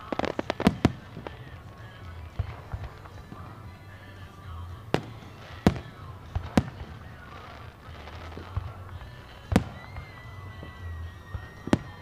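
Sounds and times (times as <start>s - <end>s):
faint fireworks pops: 0.0s - 12.0s
fireworks booming: 0.0s - 12.0s.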